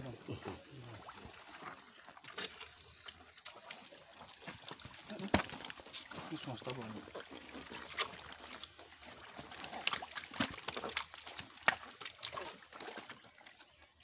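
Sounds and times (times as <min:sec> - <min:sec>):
fish slapping in water: 0:00.0 - 0:13.6
small splashes: 0:00.0 - 0:14.0.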